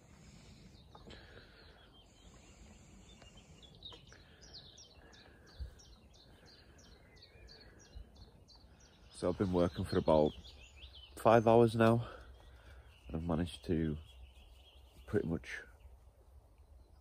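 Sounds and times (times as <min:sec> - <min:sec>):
small bird singing: 0:00.0 - 0:17.0.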